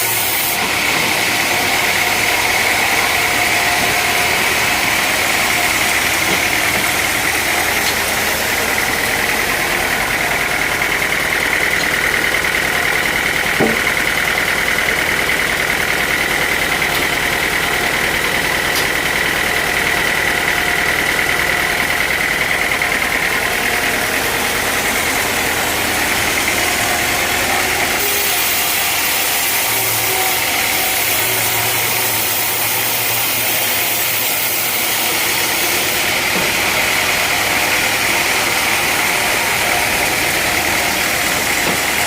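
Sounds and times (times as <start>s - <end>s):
sawmill engine running: 0.0s - 42.0s.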